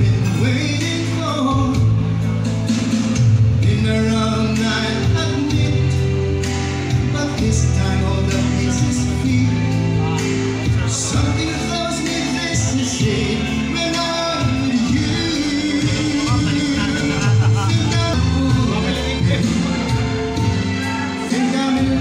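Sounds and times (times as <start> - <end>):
live band playing: 0.0 - 22.0
strong bass line: 0.0 - 22.0
person singing: 3.5 - 22.0.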